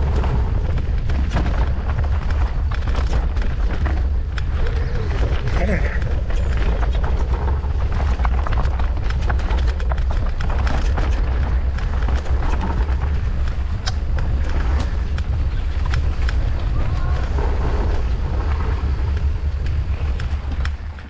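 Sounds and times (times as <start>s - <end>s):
bike clicks and rattles: 0.0s - 21.0s
wind noise on microphone: 0.0s - 21.0s.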